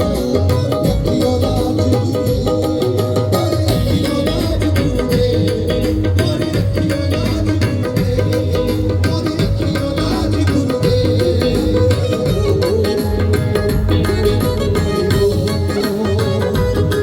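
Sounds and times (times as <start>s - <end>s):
live folk band playing: 0.0s - 17.0s
percussion beat: 0.0s - 17.0s.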